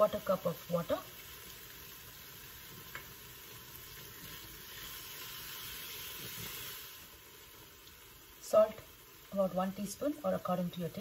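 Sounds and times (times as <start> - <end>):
food sizzling in wok: 0.0 - 11.0.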